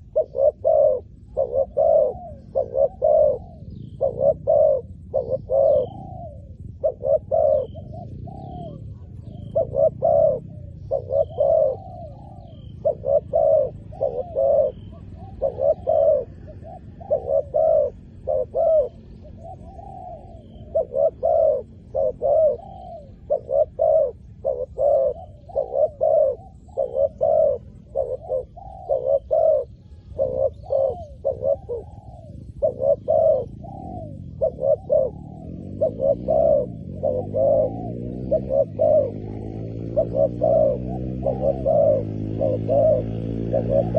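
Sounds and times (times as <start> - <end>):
doves cooing: 0.0 - 43.9
small birds chirping: 0.0 - 43.9.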